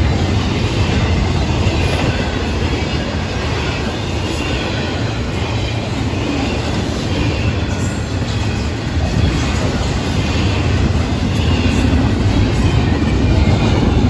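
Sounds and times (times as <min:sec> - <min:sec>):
freight train cars rolling on rails: 0:00.0 - 0:14.0.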